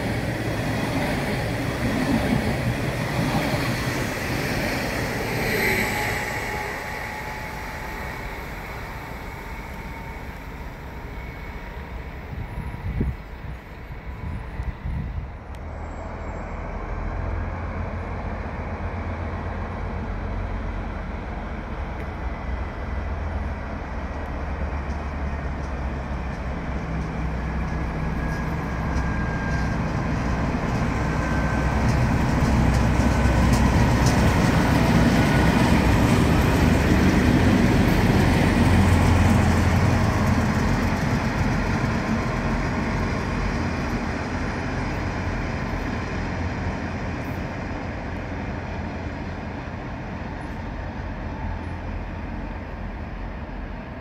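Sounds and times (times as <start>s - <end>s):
diesel locomotive drone: 0.0s - 54.0s.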